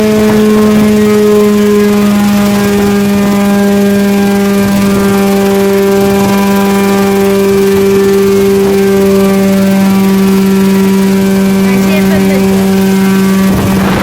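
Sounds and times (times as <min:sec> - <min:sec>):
model helicopter engine drone: 0:00.0 - 0:14.0.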